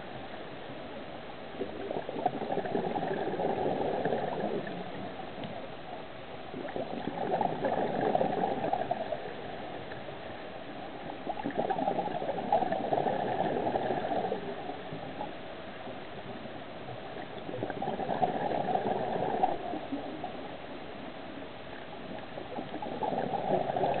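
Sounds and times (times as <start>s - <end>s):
underwater air bubbling: 1.4s - 24.0s.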